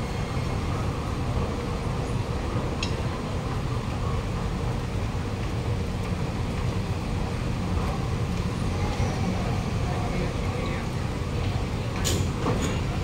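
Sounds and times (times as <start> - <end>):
metro train rumbling to a stop: 0.0 - 13.0.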